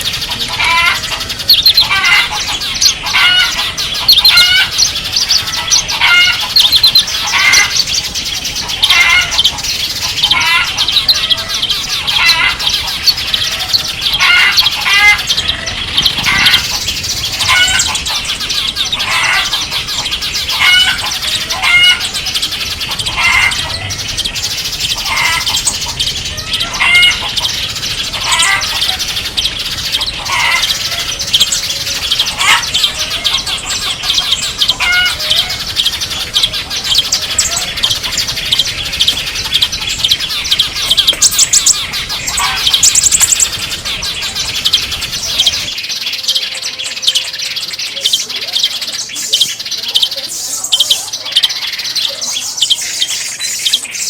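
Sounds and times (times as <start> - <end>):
loud bird call notes: 0.0 - 54.0
songbirds chirping: 0.0 - 54.0.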